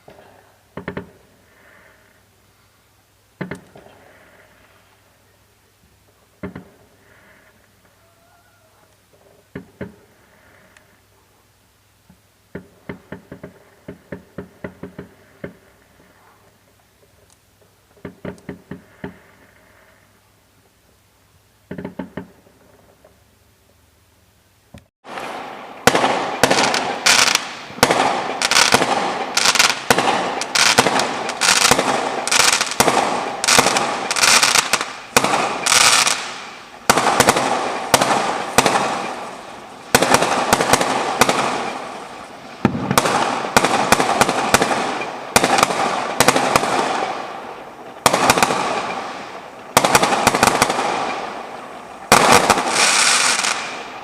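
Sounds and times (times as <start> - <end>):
fireworks banging and crackling: 0.0 - 2.7, 3.4 - 8.0, 9.0 - 11.0, 12.1 - 20.8, 21.6 - 23.4, 25.0 - 54.0.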